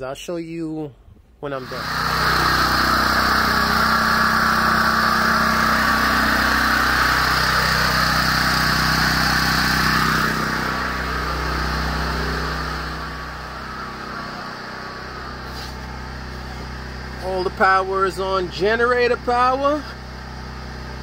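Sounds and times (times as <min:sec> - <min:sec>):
portable generator running: 0:01.5 - 0:21.0.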